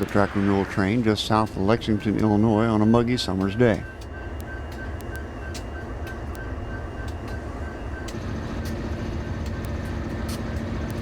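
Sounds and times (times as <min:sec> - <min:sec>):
rapid high-pitched beeping: 0:00.0 - 0:10.0
train machinery rumbling: 0:00.0 - 0:11.0.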